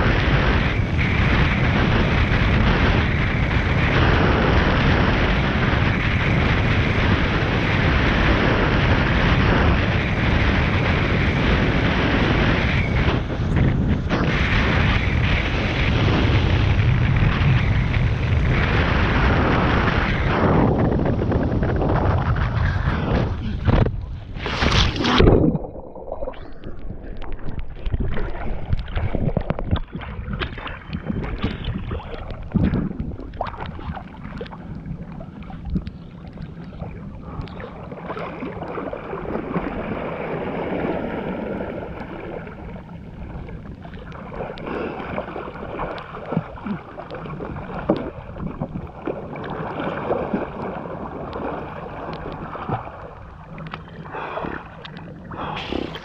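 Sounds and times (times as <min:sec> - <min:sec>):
water rushing and splashing: 0:00.0 - 0:56.0
wind buffeting microphone: 0:00.0 - 0:56.0.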